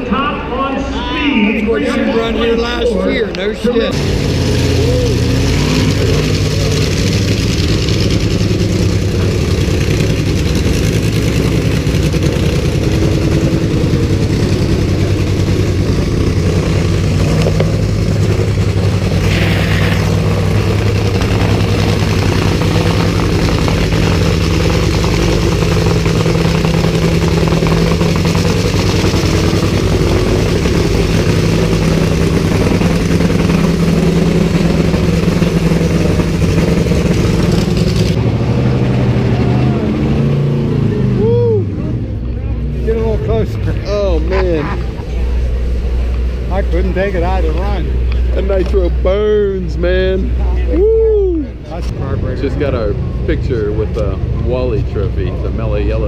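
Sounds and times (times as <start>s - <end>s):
loud car engine idling: 0.0s - 56.0s.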